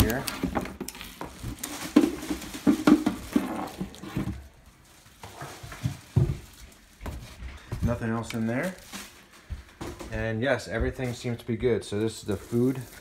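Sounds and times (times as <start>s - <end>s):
cardboard packaging rustling: 0.0s - 10.1s, 10.8s - 13.0s.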